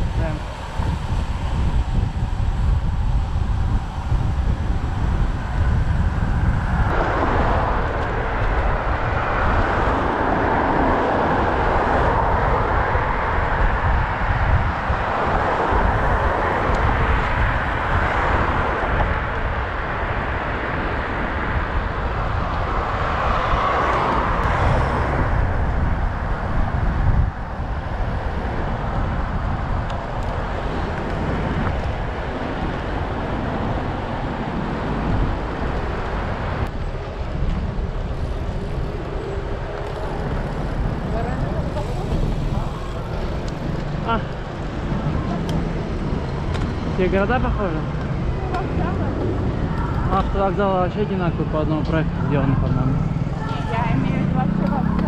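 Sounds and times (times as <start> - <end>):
road noise: 0.0 - 55.0
wind rumbling on microphone: 0.0 - 55.0.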